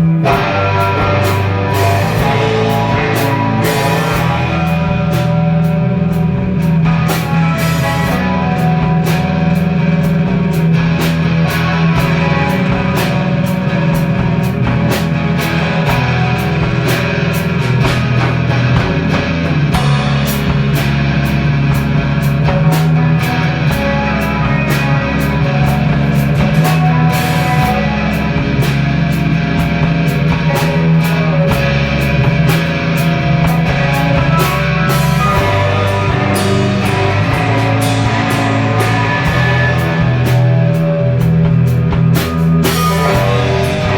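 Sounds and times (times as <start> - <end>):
drum hits: 0.0 - 43.9
rock band playing live: 0.0 - 43.9.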